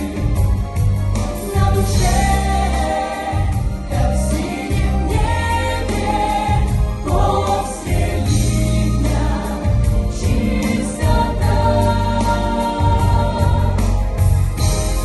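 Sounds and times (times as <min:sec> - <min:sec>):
choir singing: 0:00.0 - 0:00.6, 0:01.2 - 0:14.8
instrumental backing with bass: 0:00.0 - 0:15.0.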